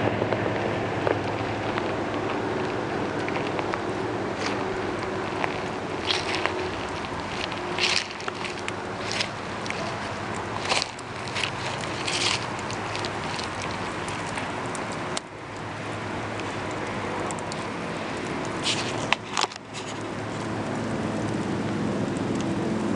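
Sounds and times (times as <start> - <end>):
campfire hissing and crackling: 0.0 - 22.9
fire popping sharply: 0.0 - 22.9.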